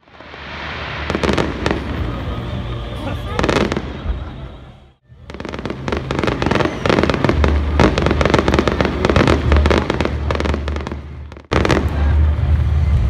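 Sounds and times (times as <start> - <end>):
fireworks crackling and popping: 0.0 - 4.4, 5.1 - 13.0.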